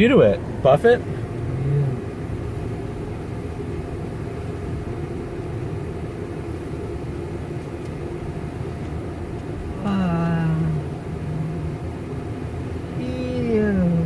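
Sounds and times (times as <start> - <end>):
car engine idling: 0.0 - 14.0
car wash machinery rumbling: 0.0 - 14.0.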